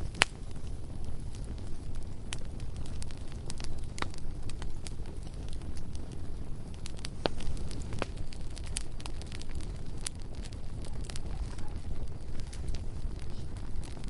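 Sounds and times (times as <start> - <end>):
burning wood crackling and popping: 0.0 - 14.0
flames rumbling: 0.0 - 14.0.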